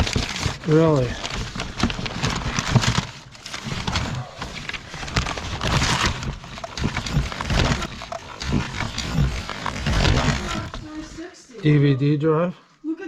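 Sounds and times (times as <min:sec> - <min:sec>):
objects clattering and knocking: 0:00.0 - 0:11.2
rustling of objects rummaged: 0:00.0 - 0:11.3.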